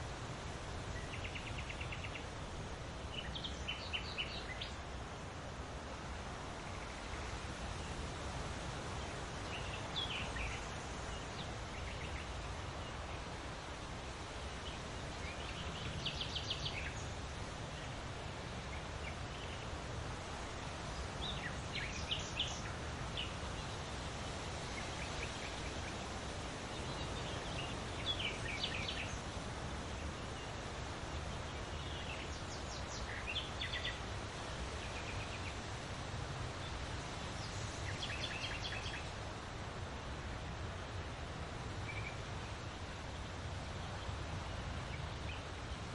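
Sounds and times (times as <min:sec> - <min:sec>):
leaves rustling in wind: 0:00.0 - 0:45.9.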